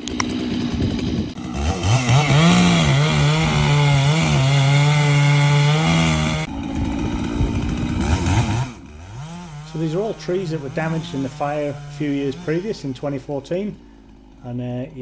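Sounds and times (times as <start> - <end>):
chainsaw revving and idling: 0.0 - 15.0.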